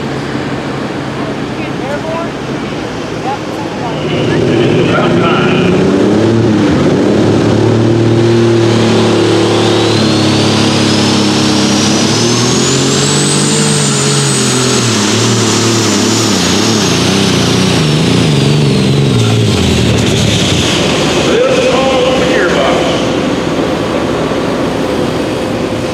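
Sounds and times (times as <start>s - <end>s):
diesel engine at full throttle: 0.0s - 25.9s
high turbo whine: 0.0s - 25.9s.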